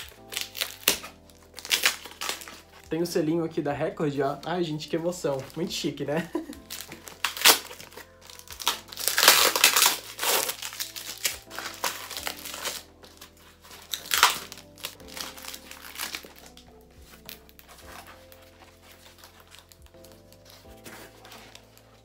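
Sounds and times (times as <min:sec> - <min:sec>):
packaging crinkling and rustling: 0:00.0 - 0:03.2, 0:04.2 - 0:22.0.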